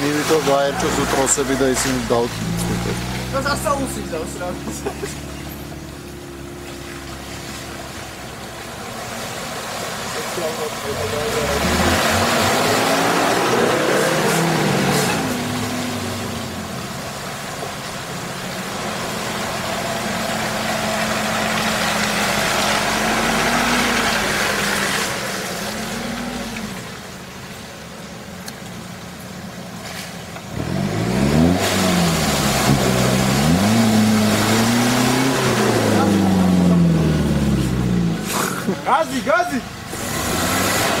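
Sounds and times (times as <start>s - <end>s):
engine revving in mud: 0.0s - 27.4s, 29.8s - 41.0s.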